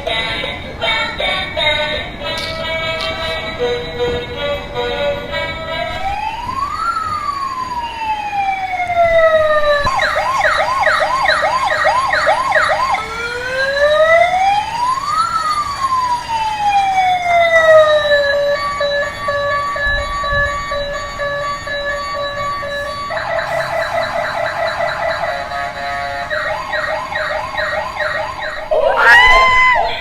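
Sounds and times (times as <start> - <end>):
emergency vehicle siren: 0.0 - 30.0.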